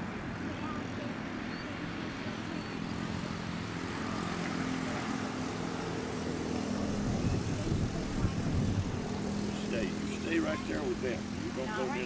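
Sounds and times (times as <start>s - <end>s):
engine drone with low hum: 0.0s - 12.0s.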